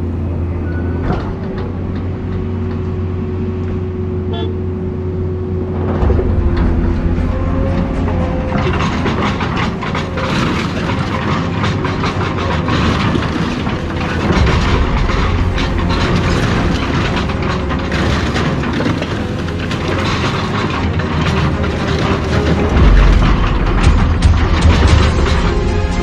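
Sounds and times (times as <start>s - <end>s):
low engine rumble: 0.0s - 26.0s
metal clanking and crunching: 0.0s - 26.0s.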